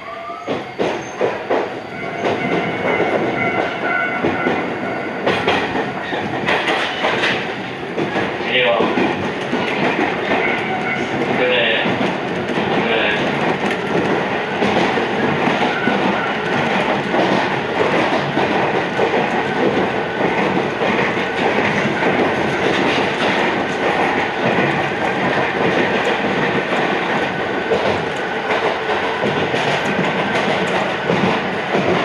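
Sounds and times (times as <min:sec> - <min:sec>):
train wheels rolling on rail: 0:00.0 - 0:32.0
rail joint clicks: 0:00.4 - 0:32.0.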